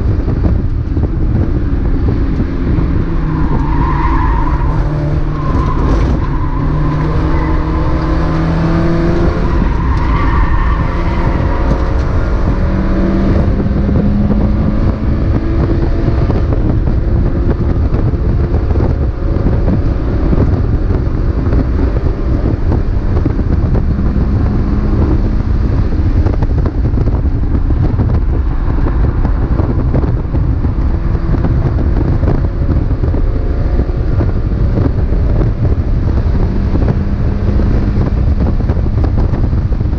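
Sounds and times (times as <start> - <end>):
race car engine running hard: 0.0 - 39.9
road and wind noise: 0.0 - 39.9.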